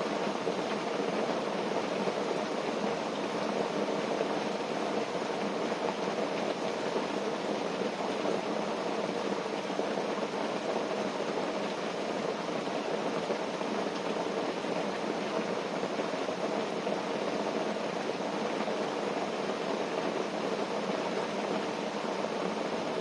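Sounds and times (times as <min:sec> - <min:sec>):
rain on a tent: 0:00.0 - 0:23.0.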